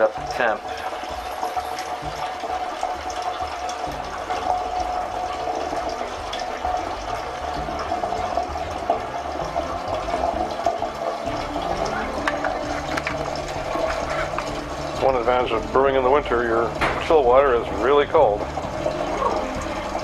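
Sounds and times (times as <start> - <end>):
water rushing through hoses: 0.0 - 20.0.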